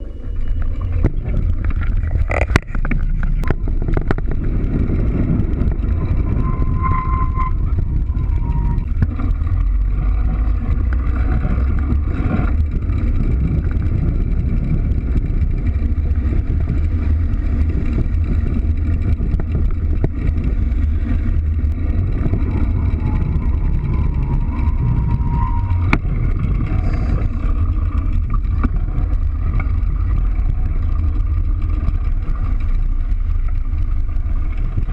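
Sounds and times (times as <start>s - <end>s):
bike tyres rolling: 0.0s - 34.9s
wind buffeting microphone: 0.0s - 34.9s.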